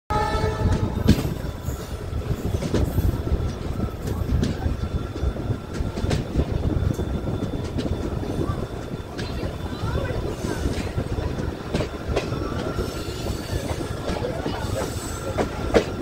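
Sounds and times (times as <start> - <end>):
clicks and clanks of train: 0.1 - 16.0
train wheels rumbling on rails: 0.1 - 16.0.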